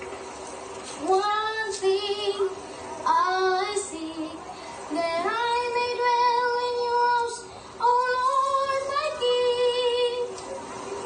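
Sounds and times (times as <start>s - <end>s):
boy singing: 1.0s - 10.4s.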